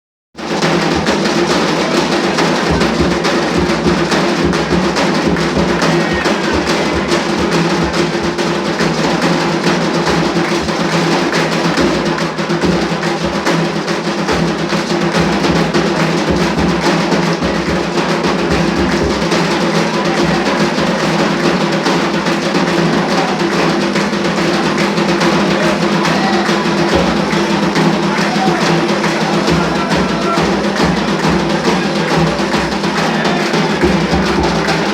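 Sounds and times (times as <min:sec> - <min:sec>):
hand drums playing a ceremonial rhythm: 0:00.4 - 0:34.9.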